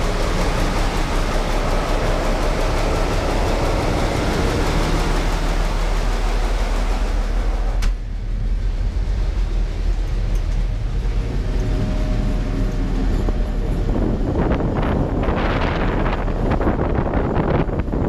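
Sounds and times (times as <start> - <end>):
diesel locomotive engine drone: 0.0 - 18.0
rushing wind: 0.0 - 18.0
train rolling on track: 0.0 - 18.0.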